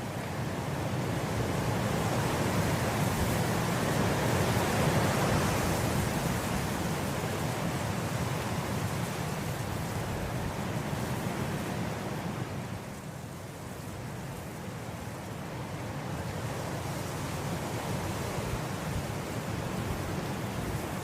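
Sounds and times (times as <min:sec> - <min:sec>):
wind blowing through grass: 0:00.0 - 0:21.0.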